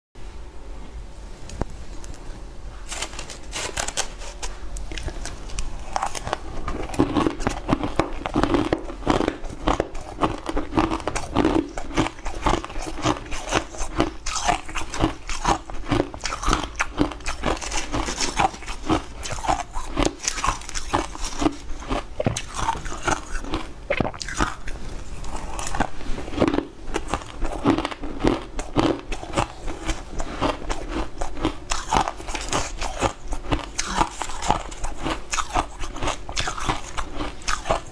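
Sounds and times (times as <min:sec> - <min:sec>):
crunching and chewing ice: 0:02.9 - 0:37.9.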